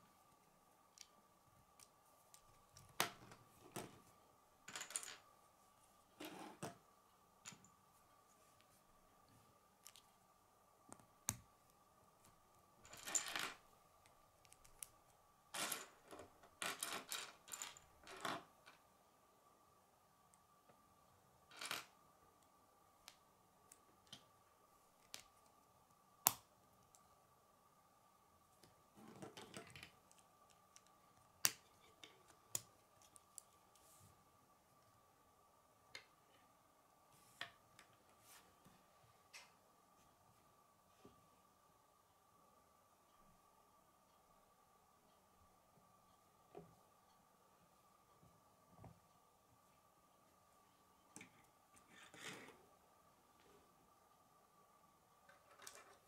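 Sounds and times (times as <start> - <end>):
faint high hum: 0.0 - 56.0.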